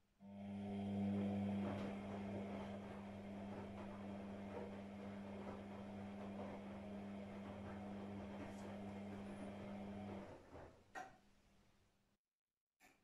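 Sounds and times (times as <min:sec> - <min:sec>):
washing machine running: 0:00.2 - 0:10.9.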